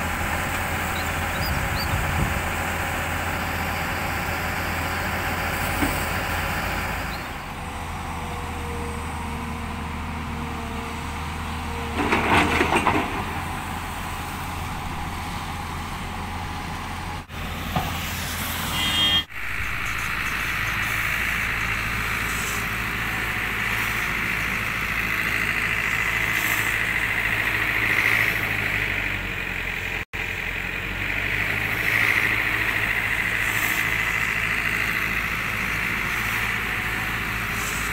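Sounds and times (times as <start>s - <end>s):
loud engine clatter: 0.0s - 18.7s, 19.3s - 37.9s
diesel engine idling: 0.0s - 37.9s.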